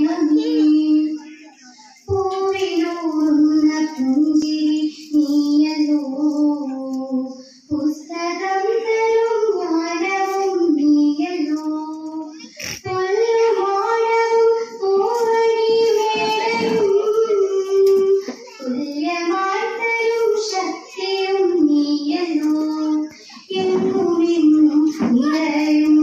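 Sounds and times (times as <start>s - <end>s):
girl singing: 0.0s - 26.0s.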